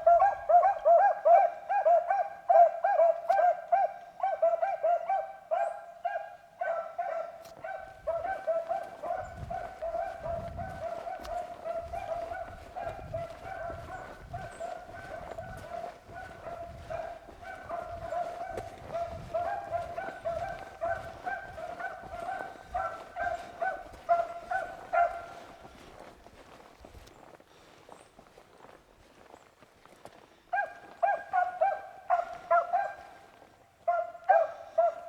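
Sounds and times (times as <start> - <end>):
hounds baying: 0.0 - 26.2, 30.5 - 35.0.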